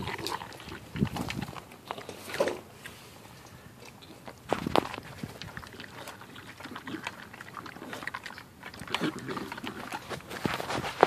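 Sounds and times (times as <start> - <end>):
dog crunching kibble in metal bowl: 0.0 - 3.0, 3.8 - 11.0.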